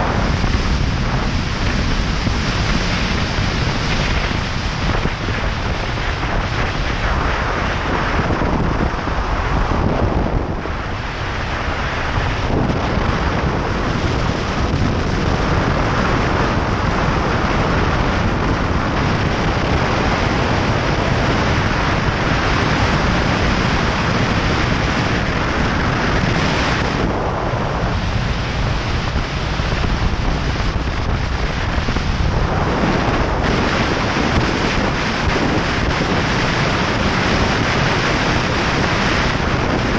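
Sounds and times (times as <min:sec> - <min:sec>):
wind roaring over microphone: 0:00.0 - 0:39.9.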